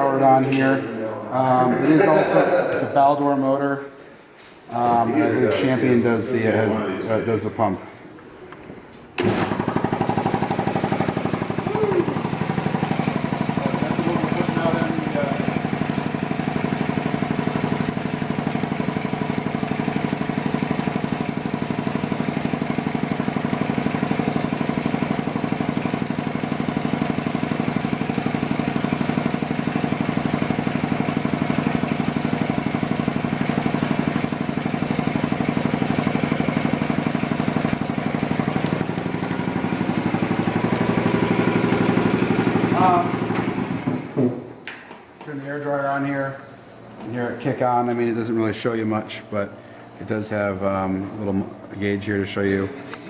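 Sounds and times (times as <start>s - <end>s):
air compressor running: 9.2s - 53.0s.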